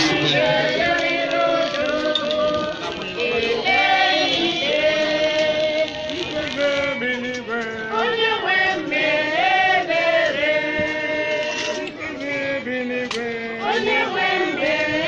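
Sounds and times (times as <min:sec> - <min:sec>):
group singing a chant: 0:00.0 - 0:15.0.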